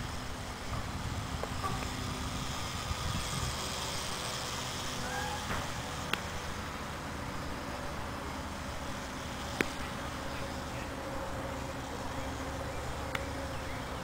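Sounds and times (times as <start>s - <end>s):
small propeller motor buzzing: 0.0s - 14.0s.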